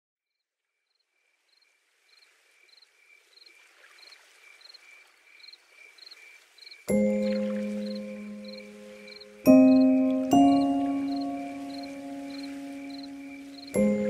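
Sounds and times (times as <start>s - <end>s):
insects chirping: 0.7s - 14.0s.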